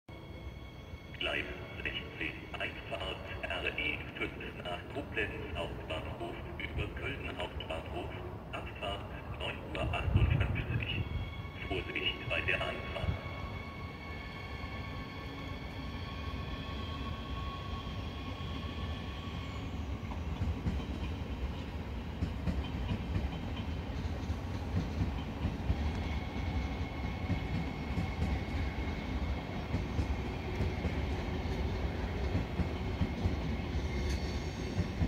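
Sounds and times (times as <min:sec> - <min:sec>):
train rumbling past: 0:00.1 - 0:35.0.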